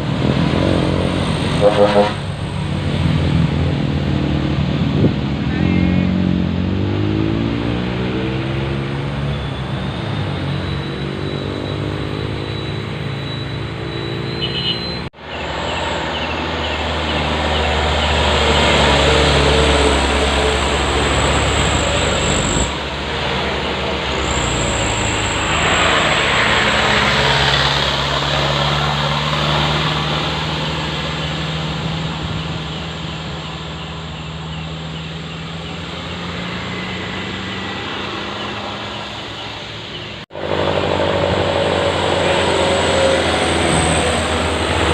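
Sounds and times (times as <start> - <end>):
diesel truck engines droning: 0.0 - 44.9
tyre and road noise: 0.0 - 44.9.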